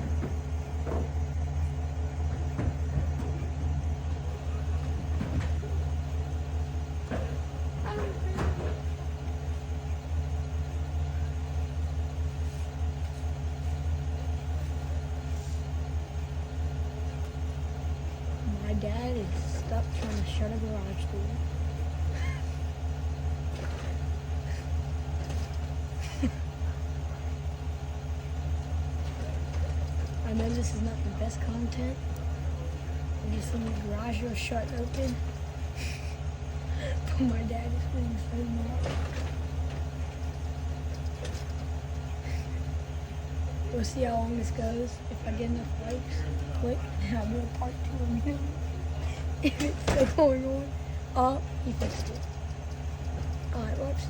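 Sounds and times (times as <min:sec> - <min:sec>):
motor humming: 0:00.0 - 0:54.0.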